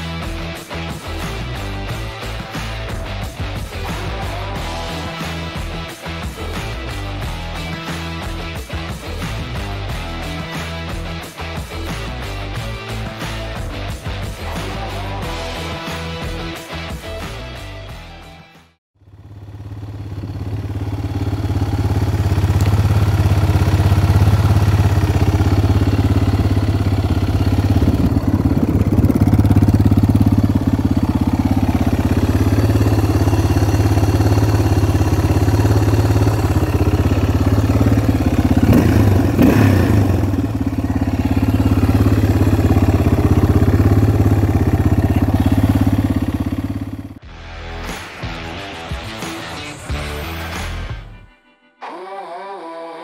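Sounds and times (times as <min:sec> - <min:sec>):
motorcycle engine idling: 0:00.0 - 0:15.7, 0:19.0 - 0:47.2.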